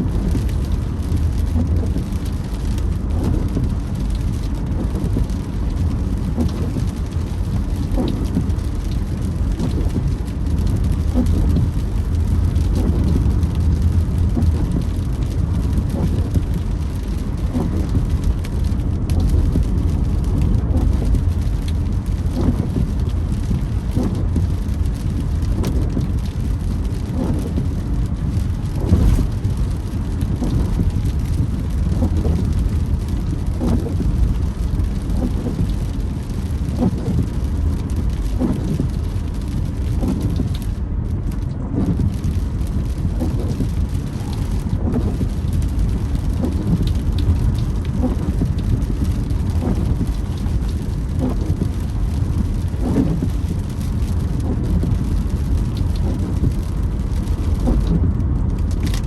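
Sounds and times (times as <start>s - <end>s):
rain on car: 0.0s - 59.0s
road and engine rumble: 0.0s - 59.0s
windshield wipers creaking: 0.0s - 59.0s.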